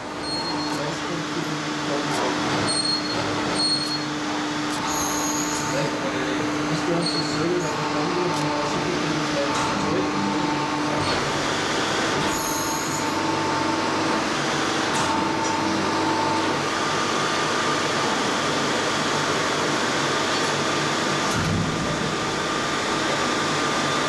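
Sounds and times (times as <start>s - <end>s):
high machine whine: 0.0s - 24.0s
machine hum and whir: 0.0s - 24.0s.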